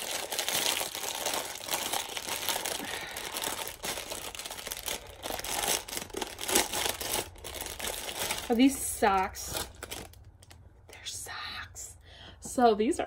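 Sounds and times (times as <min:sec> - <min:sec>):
packaging crinkling and rustling: 0:00.0 - 0:10.7.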